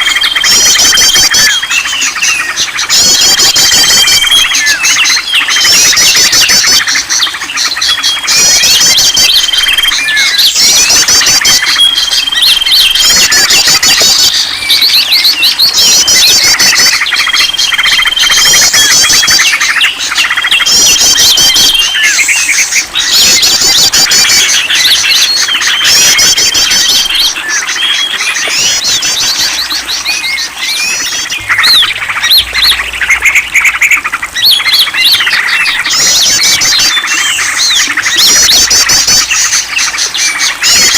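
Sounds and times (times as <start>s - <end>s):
bird trilling phrases: 0.0s - 40.9s
songbirds chorus: 0.0s - 40.9s.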